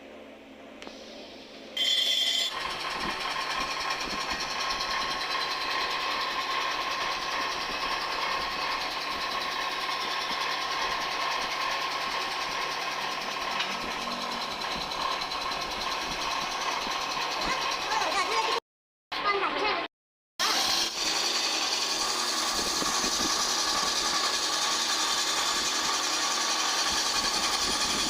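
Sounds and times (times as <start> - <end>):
small motor whining: 1.8 - 18.6, 20.4 - 28.0.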